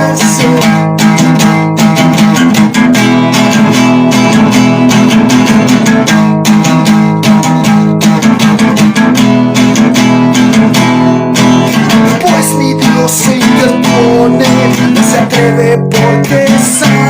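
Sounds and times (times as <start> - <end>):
rapid acoustic guitar strumming: 0.0 - 17.0.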